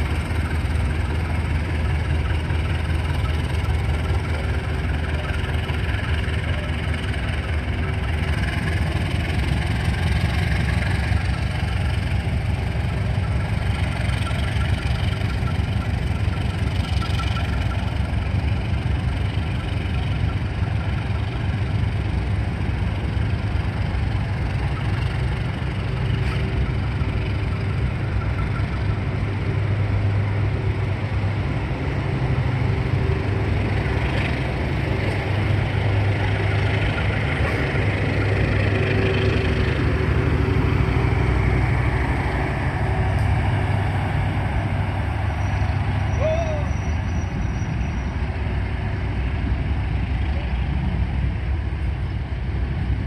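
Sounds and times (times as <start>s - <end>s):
locomotive engine droning: 0.0s - 53.0s.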